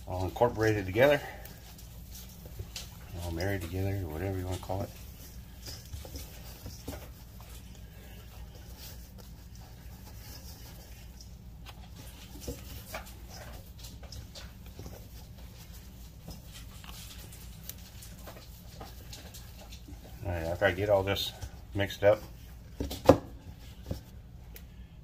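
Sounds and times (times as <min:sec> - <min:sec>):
hands squishing meat in a bowl: 0:00.0 - 0:24.7.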